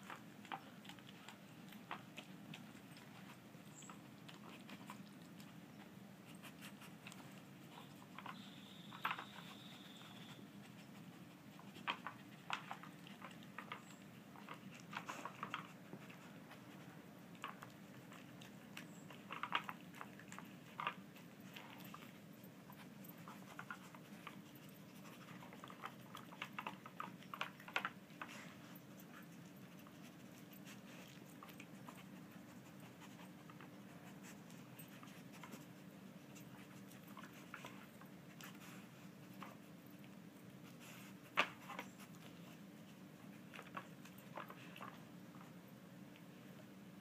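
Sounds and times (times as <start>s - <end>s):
dog snuffling and licking: 0.0s - 47.0s.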